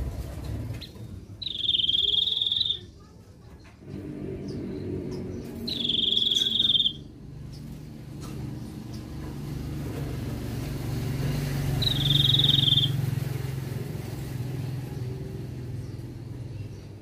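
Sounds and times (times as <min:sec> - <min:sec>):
vehicle engine passing: 0:00.0 - 0:17.0.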